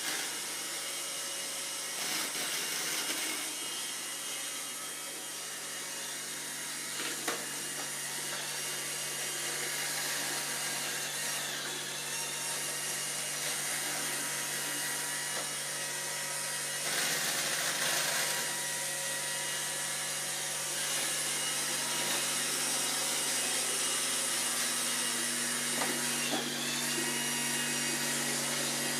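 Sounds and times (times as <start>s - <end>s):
robot vacuum cleaner running: 0.0s - 28.9s.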